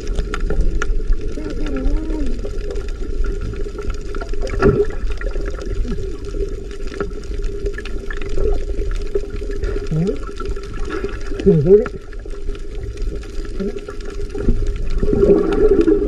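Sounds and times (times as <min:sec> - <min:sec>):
crackling clicks: 0:00.0 - 0:16.0
muffled underwater rush: 0:00.0 - 0:16.0.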